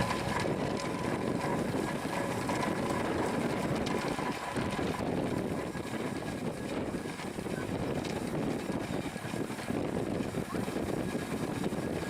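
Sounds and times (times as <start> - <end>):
steam engine running under load: 0.0 - 12.0.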